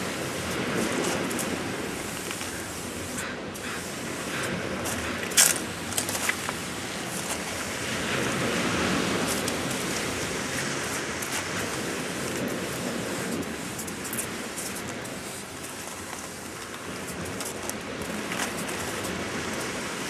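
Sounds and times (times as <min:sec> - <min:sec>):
surf washing on a beach: 0:00.0 - 0:20.0.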